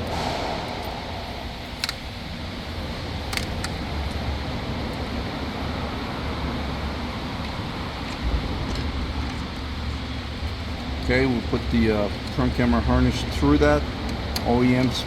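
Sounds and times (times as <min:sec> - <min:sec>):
low machinery rumble: 0:00.0 - 0:15.0.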